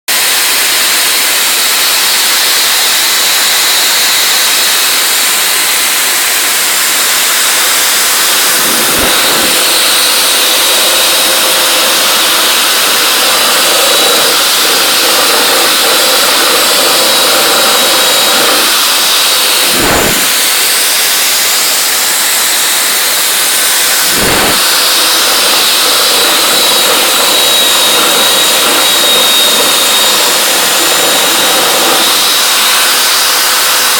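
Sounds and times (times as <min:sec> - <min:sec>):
motor with high whine: 0:00.1 - 0:33.9
rushing air: 0:02.7 - 0:33.9.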